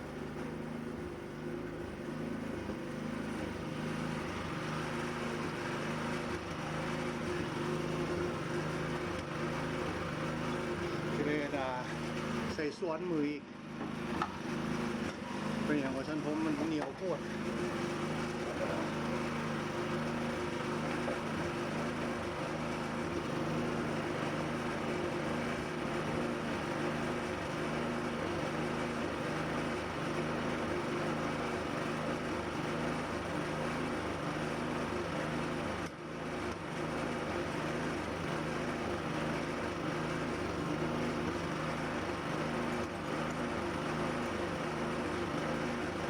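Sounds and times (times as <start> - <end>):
engine running with pulsing hum: 0.0 - 46.0.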